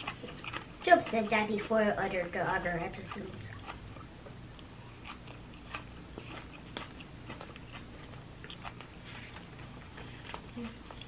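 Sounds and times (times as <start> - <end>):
person chewing salad: 0.0 - 1.1, 2.9 - 11.0.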